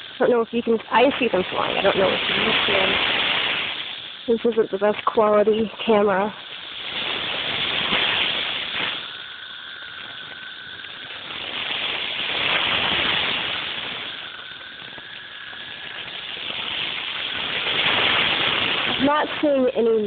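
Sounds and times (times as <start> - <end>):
cicadas chorus: 0.0 - 20.0
steady high whine: 0.0 - 20.0.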